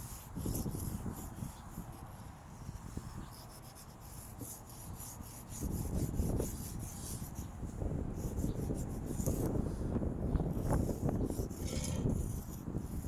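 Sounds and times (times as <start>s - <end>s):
chalk scraping on pavement: 0.0s - 13.0s
wind rumble on microphone: 0.0s - 13.0s.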